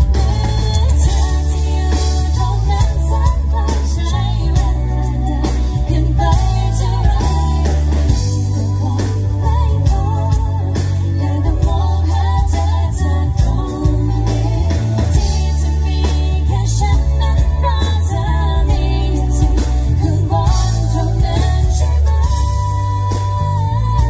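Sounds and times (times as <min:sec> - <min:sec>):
drum kit: 0:00.0 - 0:24.0
electric bass: 0:00.0 - 0:24.0
woman singing: 0:00.0 - 0:24.0.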